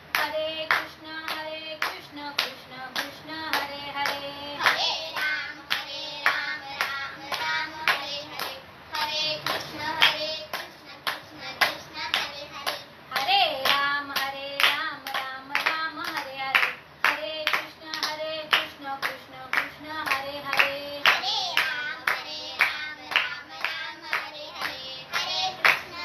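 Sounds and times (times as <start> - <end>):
woman singing a chant: 0.0 - 26.0
hand claps: 0.1 - 26.0.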